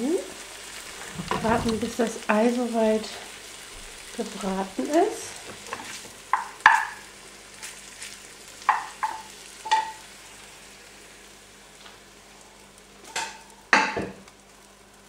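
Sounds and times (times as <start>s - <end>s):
food sizzling in sandwich toaster: 0.0s - 15.0s.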